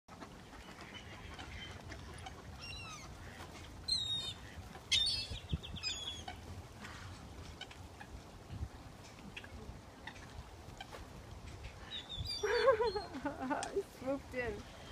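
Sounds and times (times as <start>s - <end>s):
birds calling: 0.5s - 8.2s, 8.8s - 14.9s.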